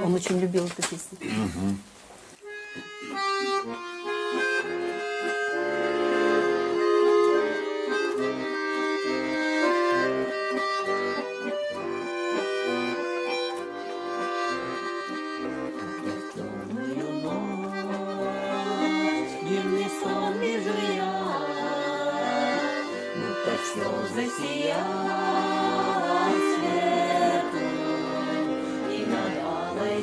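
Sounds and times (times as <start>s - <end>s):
accordion playing chords and melody: 2.4s - 30.0s.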